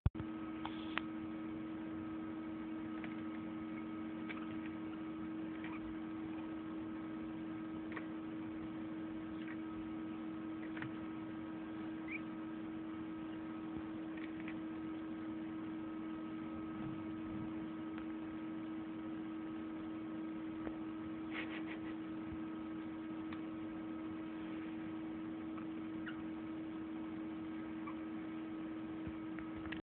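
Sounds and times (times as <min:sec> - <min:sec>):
low electrical hum: 0:00.2 - 0:29.8.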